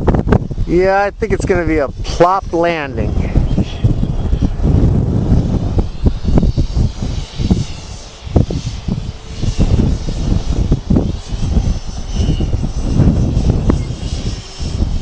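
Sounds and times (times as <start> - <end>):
faint high thin whine: 0.0 - 15.0
gusty wind buffeting microphone: 0.0 - 15.0.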